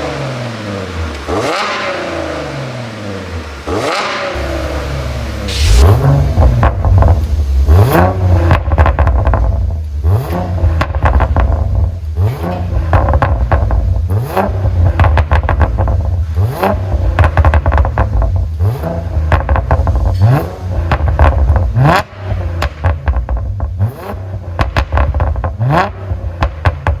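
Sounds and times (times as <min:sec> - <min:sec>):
car engine revving: 0:00.0 - 0:27.0
exhaust pops and crackles: 0:00.0 - 0:27.0.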